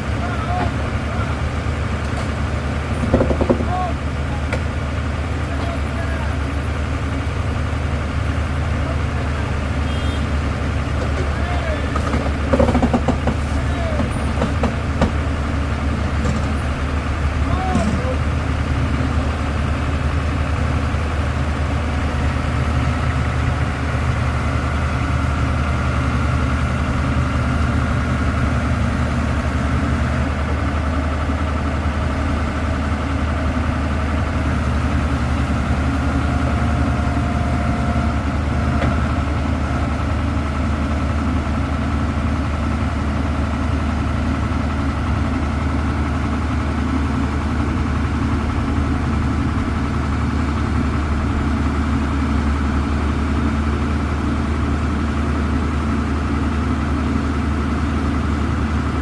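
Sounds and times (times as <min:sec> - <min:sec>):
heavy vehicle engine idling: 0:00.0 - 0:59.0.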